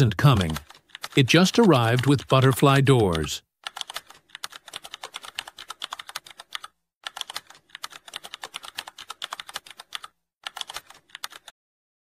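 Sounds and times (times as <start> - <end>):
computer keyboard typing: 0.0 - 11.5.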